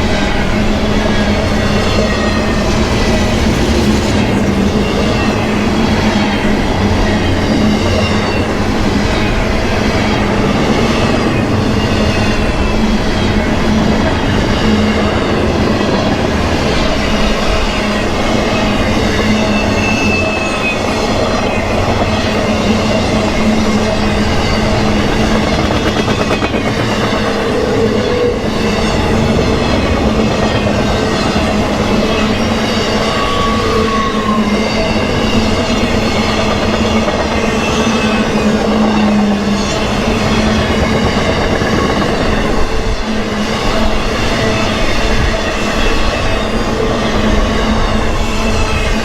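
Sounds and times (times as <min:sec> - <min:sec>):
freight train rolling on rails: 0:00.0 - 0:49.0.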